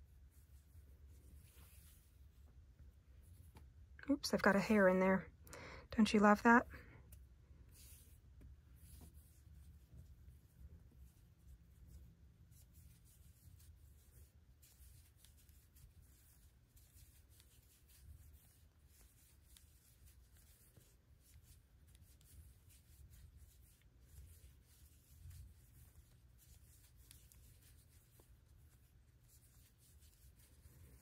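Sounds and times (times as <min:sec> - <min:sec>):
yarn rustling: 0:00.0 - 0:03.9, 0:06.4 - 0:31.0
low room hum: 0:00.0 - 0:31.0.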